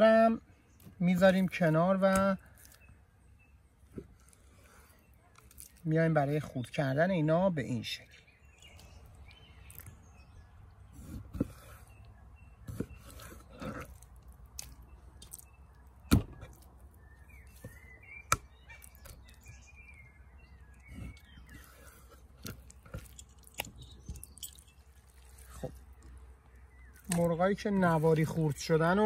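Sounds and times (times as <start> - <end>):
birds chirping faintly: 0.0 - 29.0.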